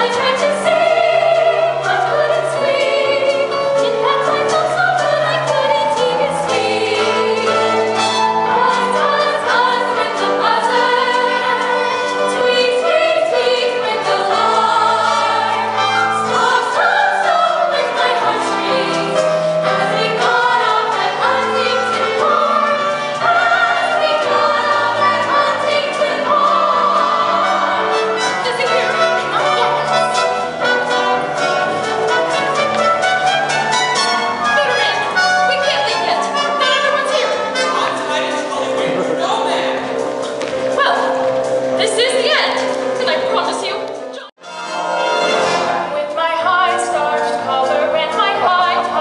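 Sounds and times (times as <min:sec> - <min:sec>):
chorus singing: 0:00.0 - 0:49.0
musical accompaniment: 0:00.0 - 0:49.0.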